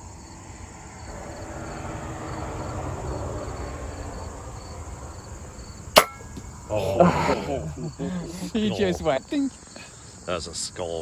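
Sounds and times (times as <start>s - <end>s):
insects chirping in trills: 0.0s - 11.0s.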